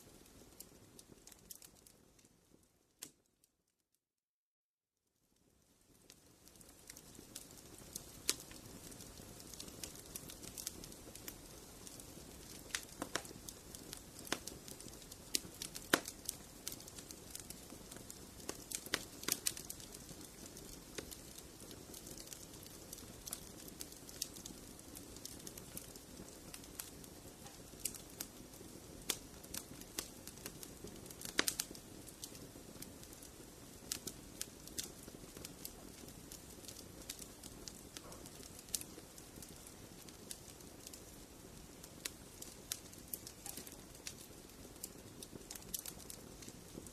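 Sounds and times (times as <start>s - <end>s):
fireplace fire crackling: 0.0s - 3.4s, 5.2s - 46.9s.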